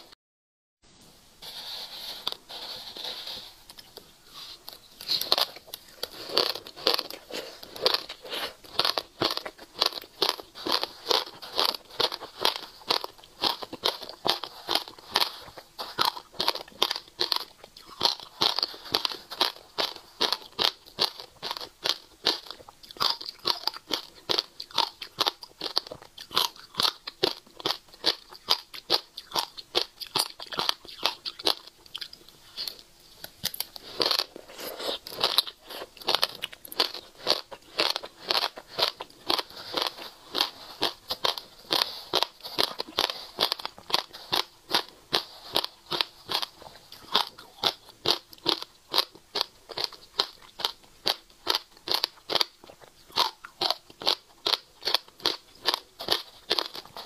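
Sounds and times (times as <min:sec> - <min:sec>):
seeds crunching being chewed: 0:02.1 - 0:57.0.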